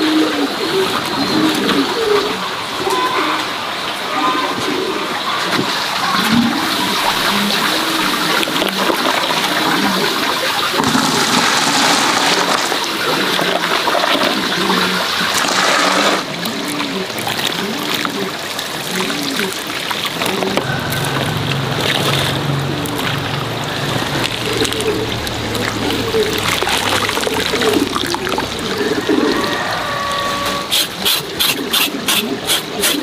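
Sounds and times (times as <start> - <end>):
water pouring and splashing: 5.4 - 33.0.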